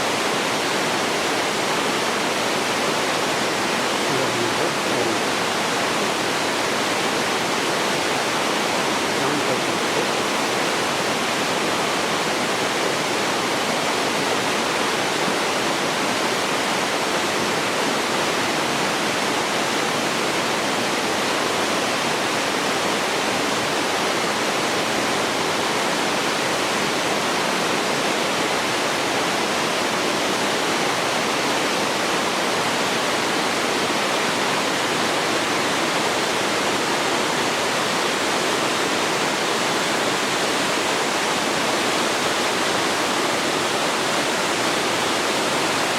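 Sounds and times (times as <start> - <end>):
waterfall rushing over rocks: 0.0 - 45.9.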